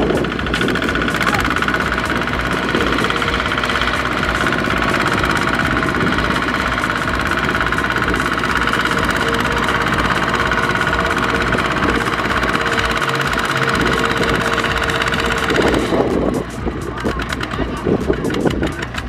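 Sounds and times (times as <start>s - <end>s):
diesel engine chugging: 0.0s - 19.0s.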